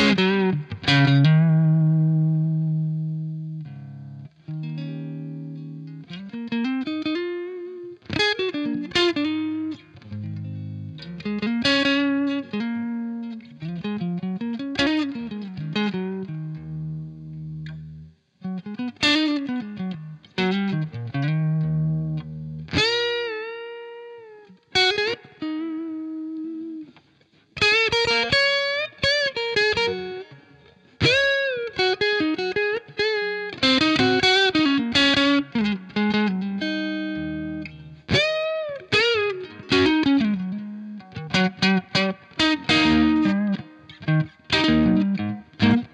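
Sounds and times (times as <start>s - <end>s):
electric guitar lead melody: 0.0s - 45.9s.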